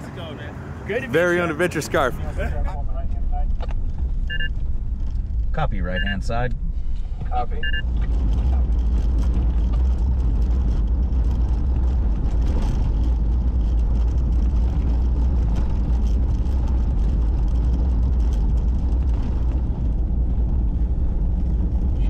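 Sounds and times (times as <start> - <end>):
truck engine rumble: 0.0 - 22.0.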